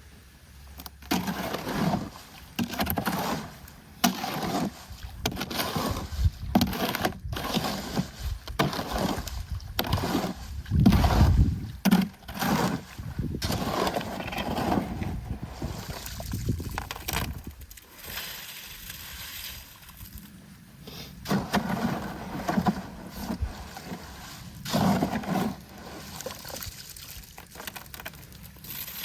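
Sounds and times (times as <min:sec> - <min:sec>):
wet concrete sloshing and scraping: 0:01.0 - 0:29.0.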